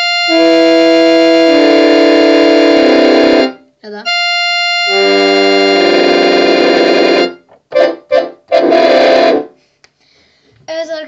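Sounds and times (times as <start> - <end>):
keyboard dissonant chord: 0.0 - 9.5
keyboard chord stabs: 0.0 - 9.6.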